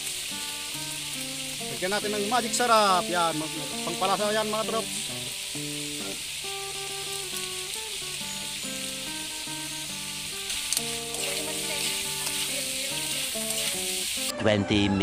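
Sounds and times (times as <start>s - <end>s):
food sizzling in a wok: 0.0s - 14.3s
background music melody: 0.0s - 15.0s.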